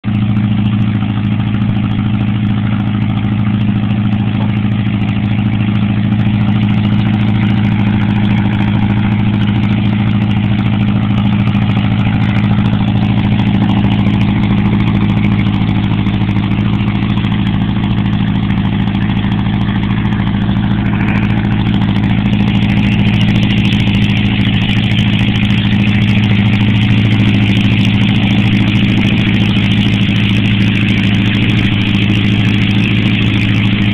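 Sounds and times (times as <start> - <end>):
aircraft engine running: 0.0 - 33.9.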